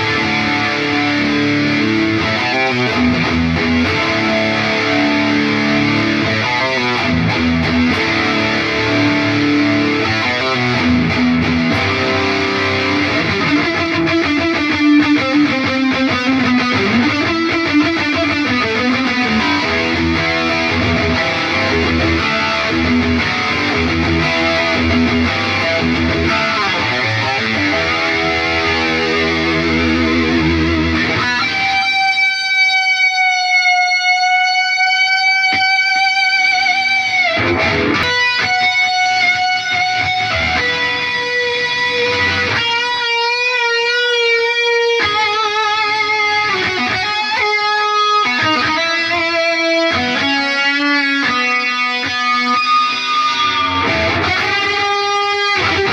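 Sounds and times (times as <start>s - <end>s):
distorted electric guitar: 0.0s - 55.9s.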